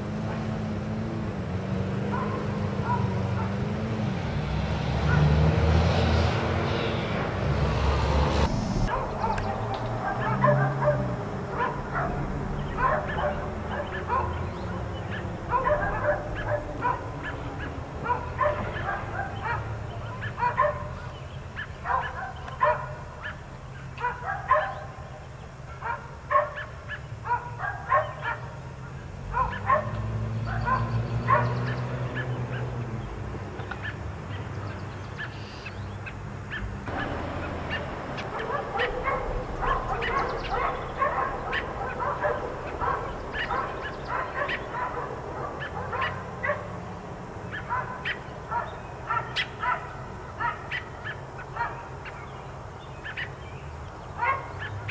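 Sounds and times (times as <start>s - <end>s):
dogs barking: 0.0s - 0.8s, 1.9s - 4.1s, 5.0s - 5.6s, 8.9s - 33.0s, 33.7s - 53.4s, 54.0s - 54.9s.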